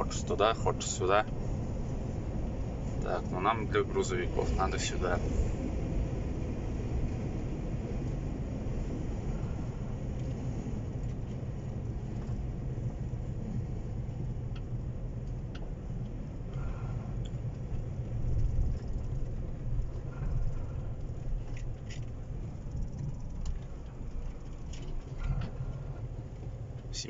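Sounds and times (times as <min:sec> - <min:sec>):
road noise: 0:00.0 - 0:27.0
truck diesel engine rumble: 0:00.0 - 0:27.0.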